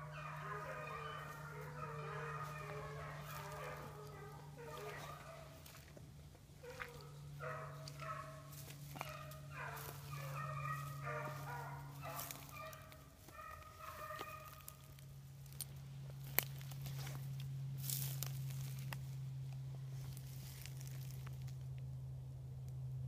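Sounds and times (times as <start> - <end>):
hounds baying: 0.0 - 19.0
low steady hum: 0.0 - 23.0.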